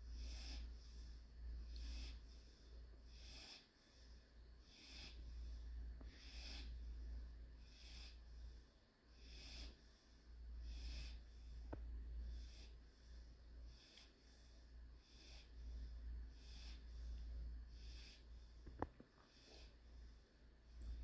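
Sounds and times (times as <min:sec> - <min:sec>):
low steady hum: 0:00.0 - 0:21.0
puppy breathing in sleep: 0:00.0 - 0:21.0.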